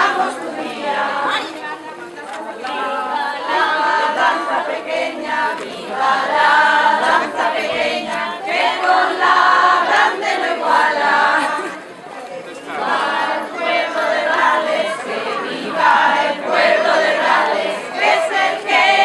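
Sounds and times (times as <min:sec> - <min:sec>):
group of voices singing: 0:00.0 - 0:12.0, 0:12.6 - 0:19.0.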